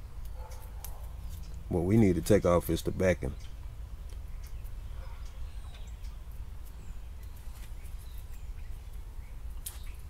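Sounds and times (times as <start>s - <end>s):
faint bird chirps: 0.0s - 10.0s
low background hum: 0.0s - 10.0s.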